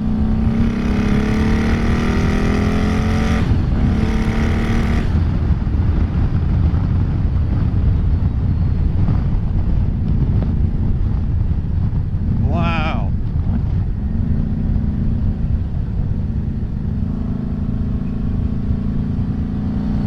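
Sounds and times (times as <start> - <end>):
motorcycle engine accelerating: 0.0 - 20.0
wind noise: 0.0 - 20.0.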